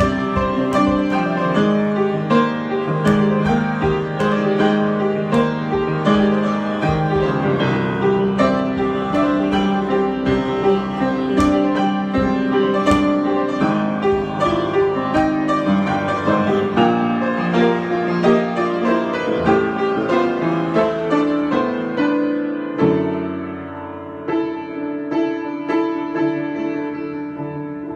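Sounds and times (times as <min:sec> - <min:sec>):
solo piano improvisation: 0:00.0 - 0:27.9.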